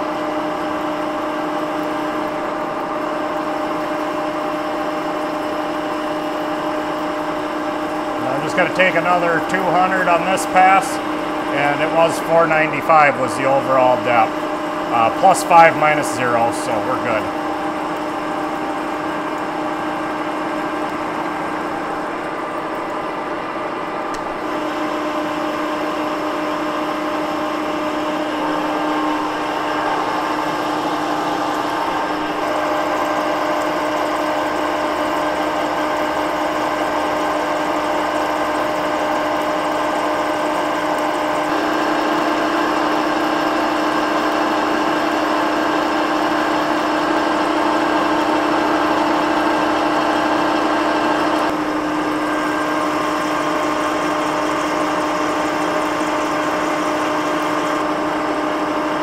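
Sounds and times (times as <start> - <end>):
milling machine hum: 0.0 - 59.0.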